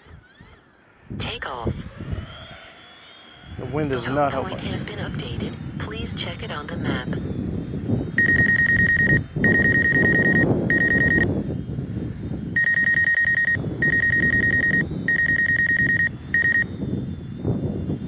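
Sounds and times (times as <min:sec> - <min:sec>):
drone motors whirring: 0:00.0 - 0:18.0
wind noise: 0:01.0 - 0:02.6, 0:03.4 - 0:18.0
electronic warning beeping: 0:03.5 - 0:18.0.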